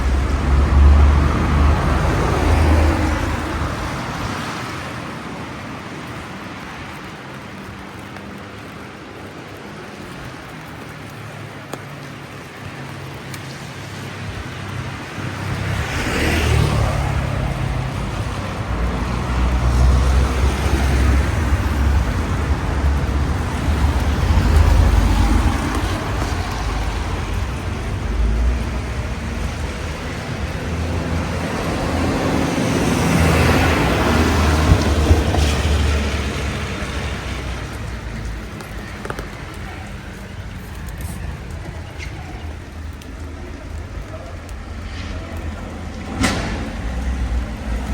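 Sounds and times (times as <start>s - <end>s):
cars passing with tyre hiss: 0.0s - 47.9s
low traffic rumble: 0.0s - 47.9s.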